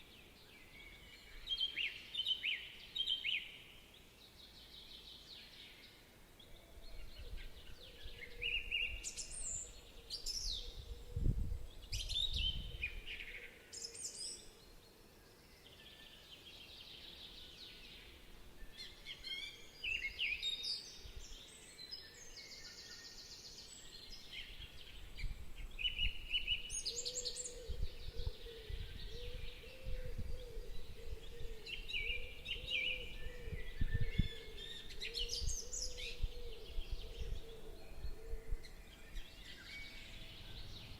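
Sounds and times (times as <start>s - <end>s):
birds chirping and singing: 0.5s - 40.9s.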